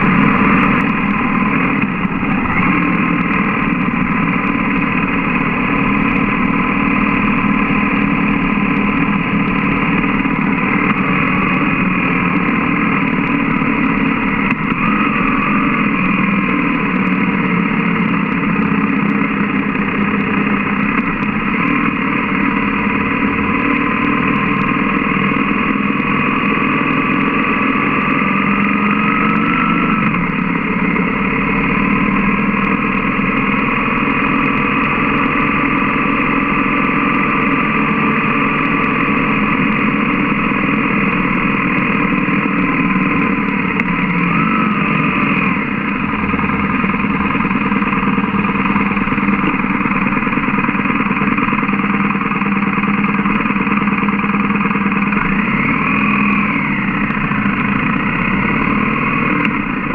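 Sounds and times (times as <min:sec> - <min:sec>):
motorcycle engine running: 0:00.0 - 0:59.9
thin wavering whine: 0:00.0 - 0:59.9.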